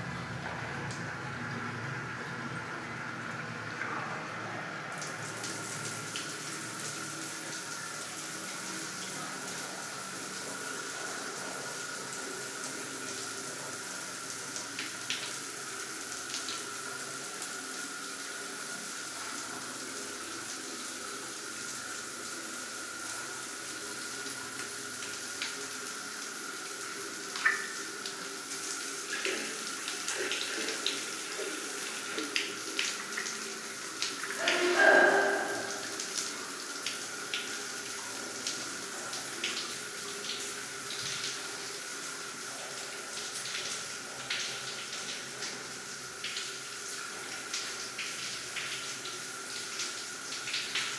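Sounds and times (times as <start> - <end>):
shower water on tiles: 0.0 - 50.9.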